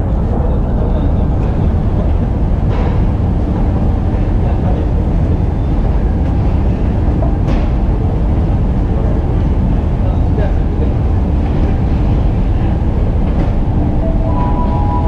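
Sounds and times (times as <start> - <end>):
low rumble of metro station: 0.0 - 15.0.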